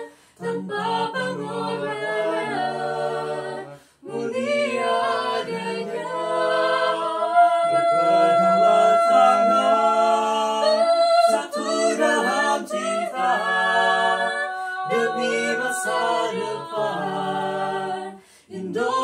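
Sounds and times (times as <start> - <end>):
vocal quartet singing in harmony: 0.0 - 19.0.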